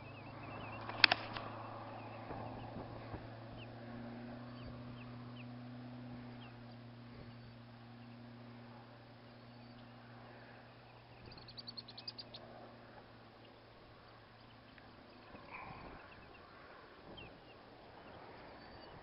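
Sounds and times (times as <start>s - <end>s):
bird chirps: 0.0s - 19.0s
steady low hum: 0.0s - 19.0s.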